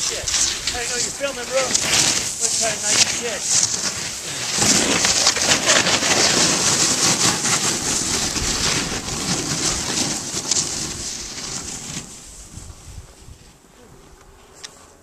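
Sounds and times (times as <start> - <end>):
snowboards scraping over snow: 0.0 - 15.0.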